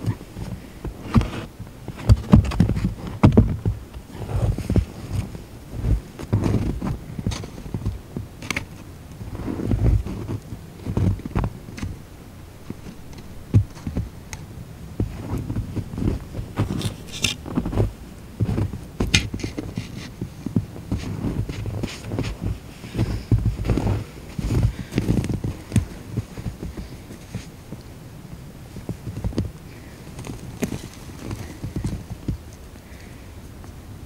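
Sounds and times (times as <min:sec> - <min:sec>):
thuds and shuffling in snow: 0:00.0 - 0:12.0, 0:12.6 - 0:14.3, 0:15.0 - 0:27.7, 0:28.7 - 0:32.4.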